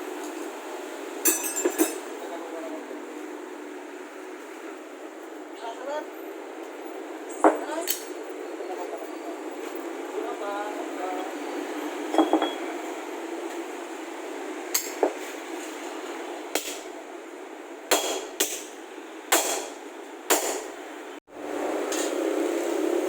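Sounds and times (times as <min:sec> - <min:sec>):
steady shop hiss: 0:00.0 - 0:23.0.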